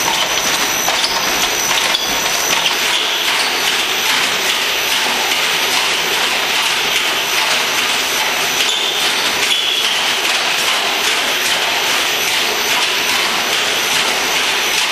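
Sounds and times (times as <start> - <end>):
drum tester mechanical noise: 0.0 - 14.9.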